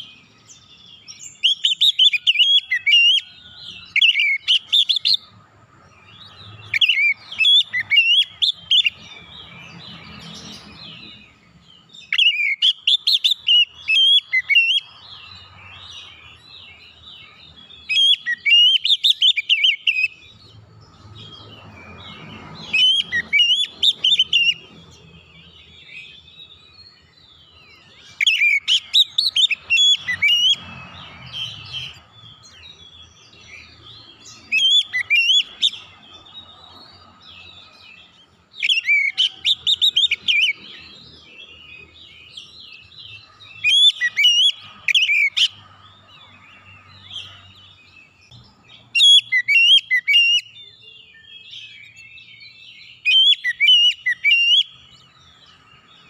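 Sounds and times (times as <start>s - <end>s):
bird singing whistled calls: 0.0s - 56.0s.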